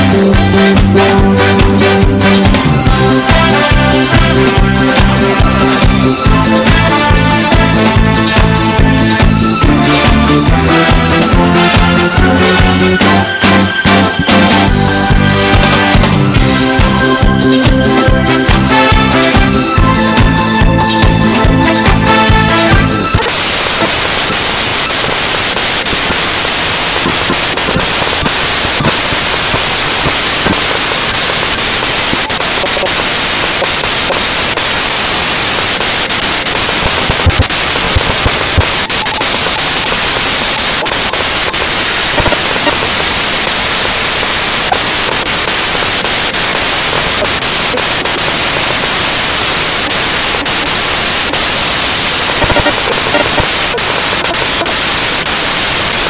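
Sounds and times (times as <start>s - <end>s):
dance music: 0.0s - 56.0s
loud static hiss: 0.0s - 56.0s.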